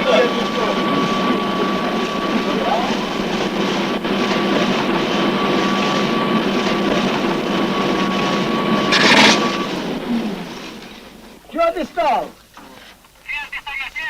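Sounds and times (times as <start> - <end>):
heavy machinery whining: 0.0 - 14.0.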